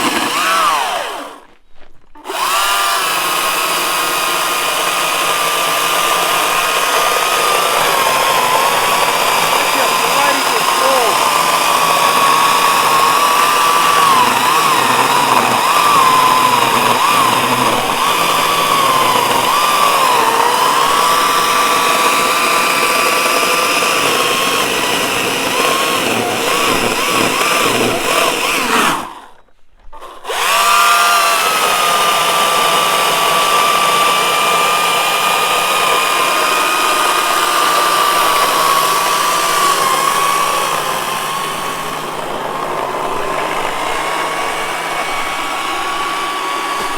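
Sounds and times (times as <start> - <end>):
battery chainsaw electric whine: 0.0 - 1.6, 2.2 - 46.9.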